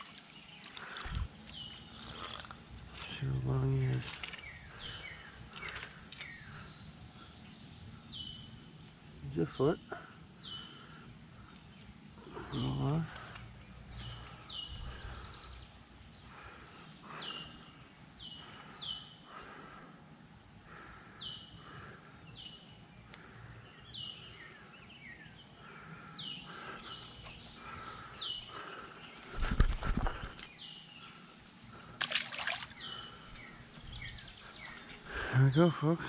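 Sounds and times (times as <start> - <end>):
bird calling: 0.0 - 8.7, 9.4 - 19.8, 20.7 - 36.0.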